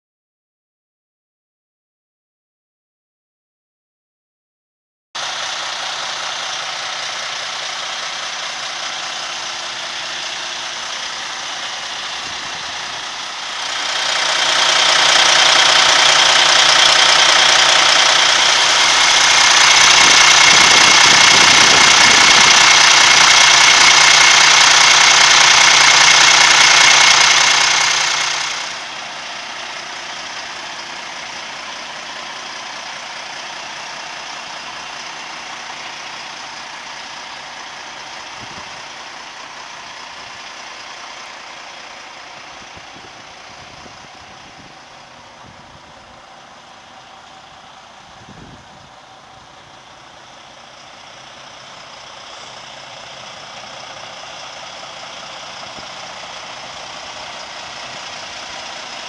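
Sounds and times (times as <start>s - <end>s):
diesel engine idling: 5.2s - 59.0s
engine whine and hiss: 5.2s - 59.0s.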